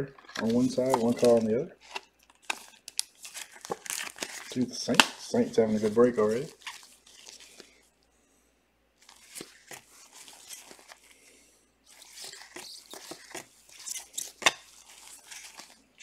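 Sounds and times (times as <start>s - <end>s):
trading cards rustling: 0.2s - 7.8s, 9.0s - 16.0s.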